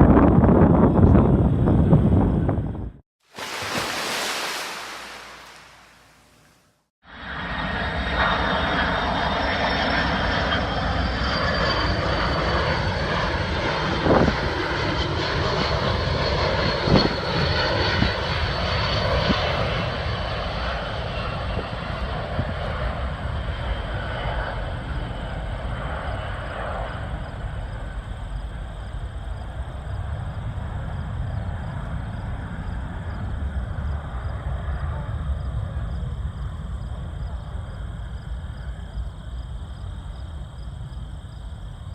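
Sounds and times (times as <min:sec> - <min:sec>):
jet aircraft passing overhead: 0:03.4 - 0:06.1, 0:07.1 - 0:39.0.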